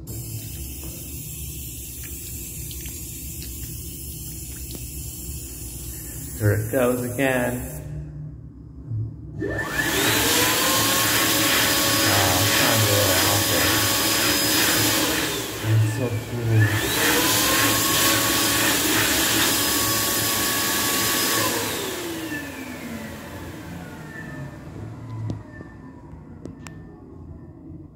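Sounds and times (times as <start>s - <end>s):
hand dryer whining and blowing: 0.0s - 2.8s, 3.4s - 7.9s, 9.4s - 26.6s.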